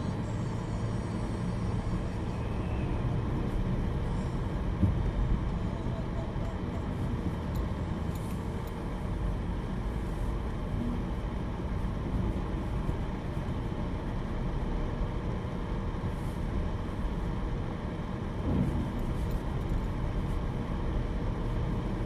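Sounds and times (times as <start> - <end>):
car cabin road noise: 0.0 - 22.0.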